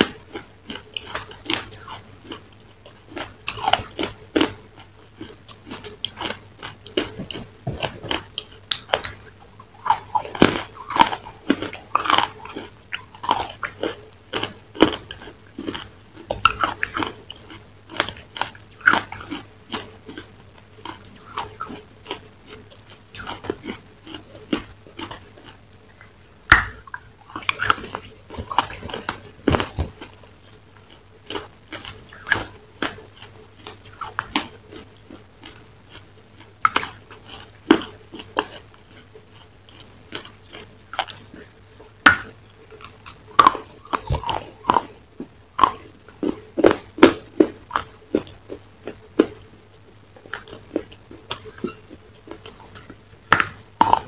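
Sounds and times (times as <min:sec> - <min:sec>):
crunchy food chewing: 0:00.0 - 0:54.0
faint steady hum: 0:00.0 - 0:54.0.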